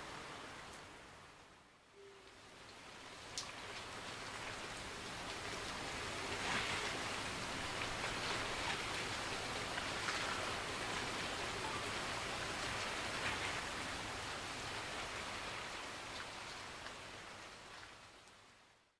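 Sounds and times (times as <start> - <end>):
outdoor background hiss: 0.0 - 18.9.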